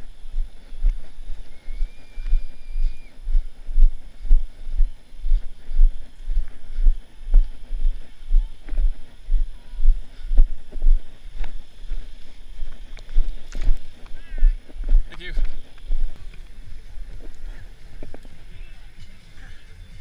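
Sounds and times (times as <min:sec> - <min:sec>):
running footsteps on dirt trail: 0:00.0 - 0:20.0.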